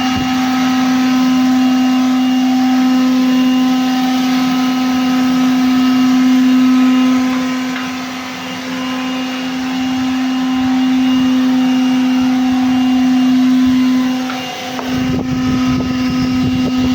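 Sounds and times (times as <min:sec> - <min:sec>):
vacuum cleaner motor whine: 0:00.0 - 0:16.9.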